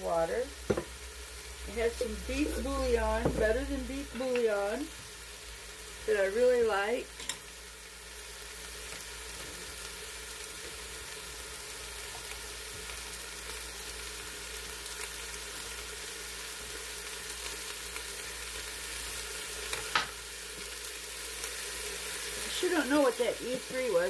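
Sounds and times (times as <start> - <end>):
meat and onions sizzling: 0.0 - 24.0.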